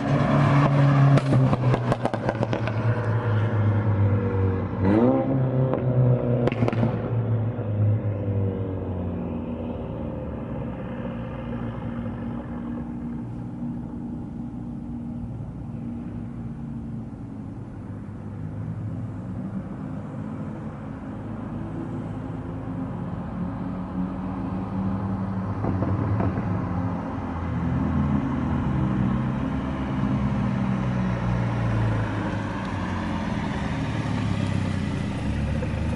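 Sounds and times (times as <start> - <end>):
car engine droning: 0.0 - 35.9.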